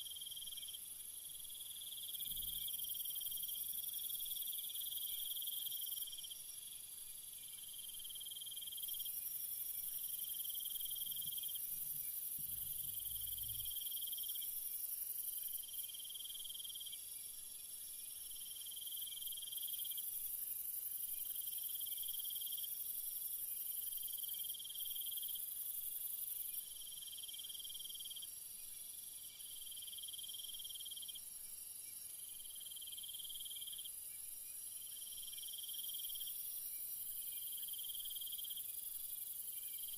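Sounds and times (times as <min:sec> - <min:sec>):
lower insect trill: 0:00.0 - 0:39.9.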